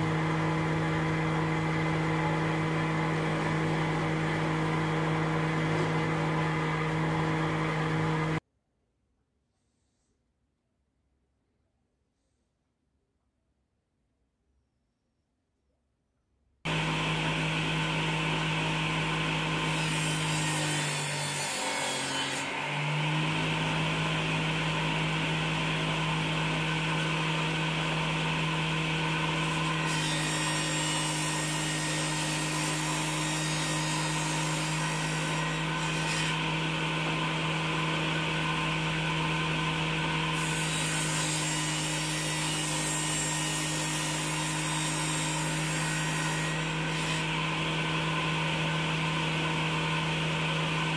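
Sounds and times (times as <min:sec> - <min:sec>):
saw motor humming: 0:00.0 - 0:08.4, 0:16.7 - 0:50.9.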